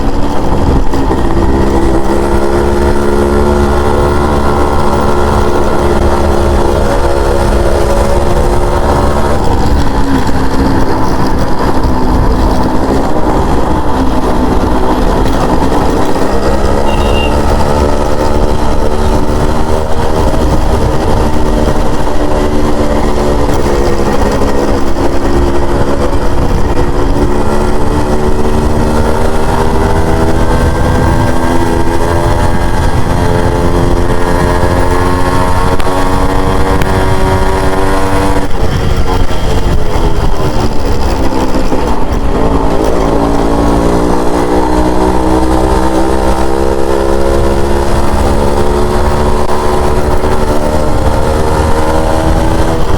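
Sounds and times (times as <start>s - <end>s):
two-stroke motorcycle engine: 0.0s - 52.9s.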